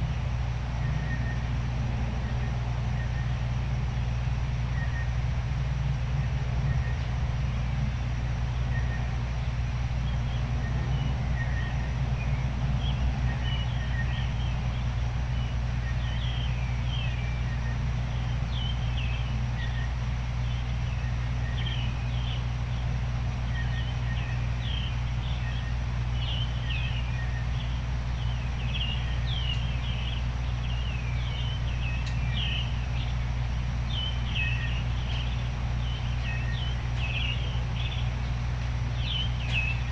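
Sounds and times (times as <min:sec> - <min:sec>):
songbirds chirping: 0:00.0 - 0:39.9
steady white noise: 0:00.0 - 0:39.9.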